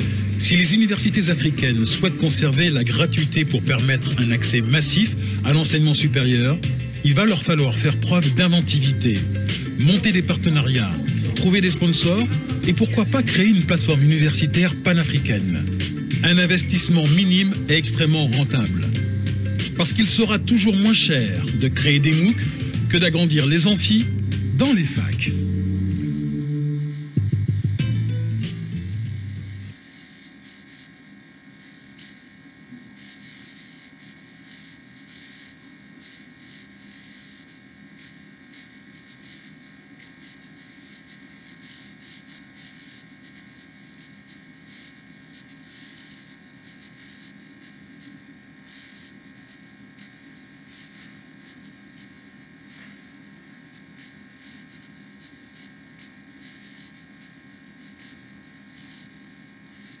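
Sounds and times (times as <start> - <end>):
faint steady tones: 0.0 - 60.0
flickering high hiss: 0.0 - 60.0
low hiss and hum: 0.0 - 60.0.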